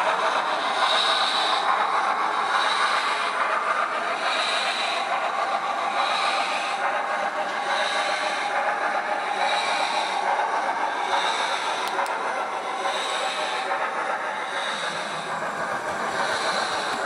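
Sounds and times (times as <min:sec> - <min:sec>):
model train steam hiss: 0:00.0 - 0:17.0.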